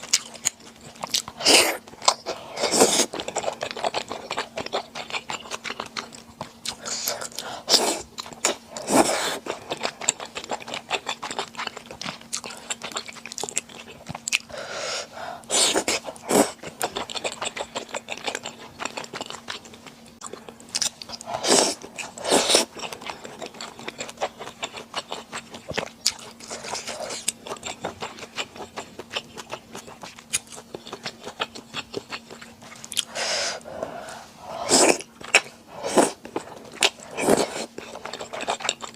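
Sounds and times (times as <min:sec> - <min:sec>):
faint steady hum: 0:00.0 - 0:38.9
person chewing and biting: 0:00.0 - 0:38.9.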